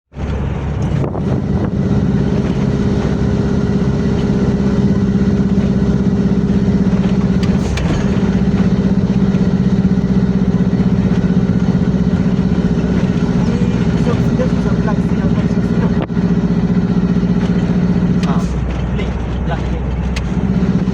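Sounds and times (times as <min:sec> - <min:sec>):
diesel truck engine idling: 0:00.1 - 0:20.9.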